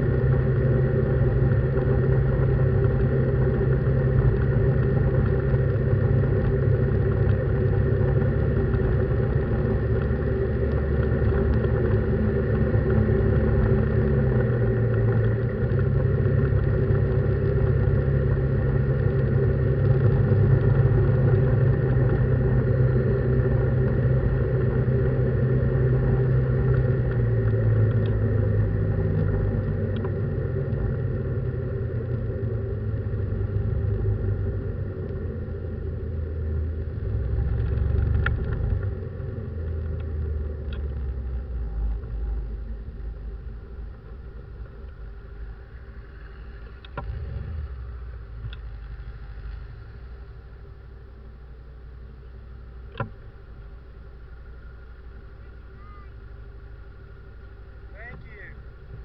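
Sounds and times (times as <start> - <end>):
vehicle cabin engine and road hum: 0.0 - 59.0.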